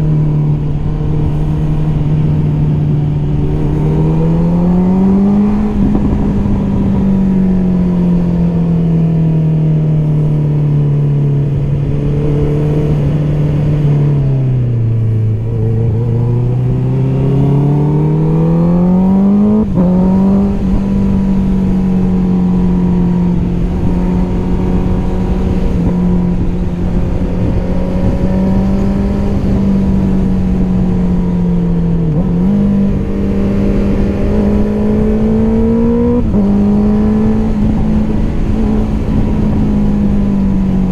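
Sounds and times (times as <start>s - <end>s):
motorcycle engine running loud: 0.0s - 40.9s.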